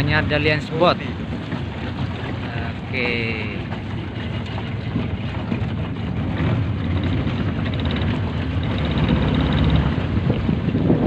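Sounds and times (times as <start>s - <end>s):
motorboat engine running: 0.0s - 11.0s
water rushing past hull: 0.0s - 11.0s
wind on microphone: 0.0s - 11.0s.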